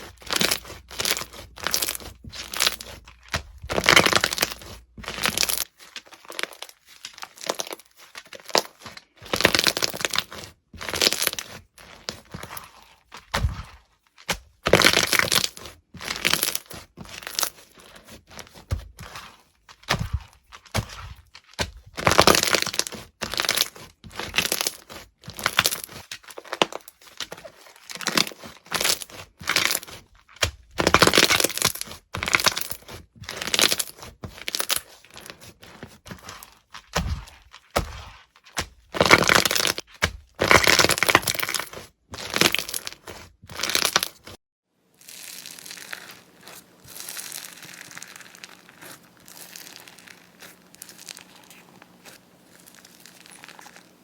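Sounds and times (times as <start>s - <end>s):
crunchy slime squeezed crackling: 0.0s - 44.4s, 45.0s - 54.0s.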